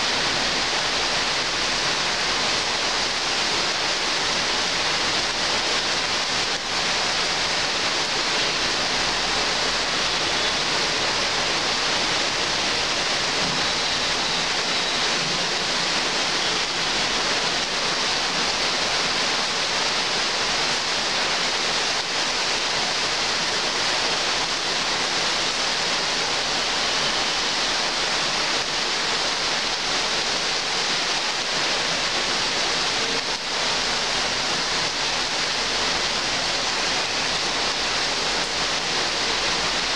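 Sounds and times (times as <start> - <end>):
rain on trees and leaves: 0.0 - 39.9.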